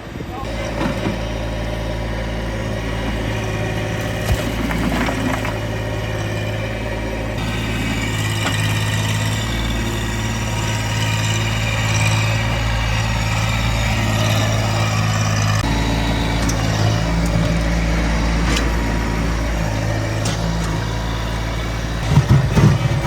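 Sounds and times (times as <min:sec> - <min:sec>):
small tractor engine running: 0:00.0 - 0:23.0.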